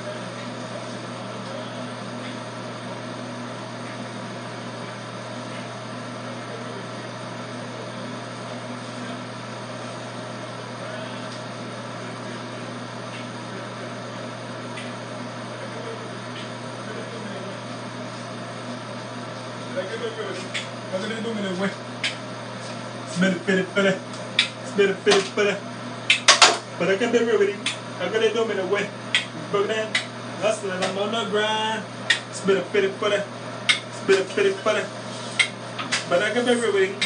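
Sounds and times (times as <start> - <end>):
low electrical hum: 0.0 - 37.0.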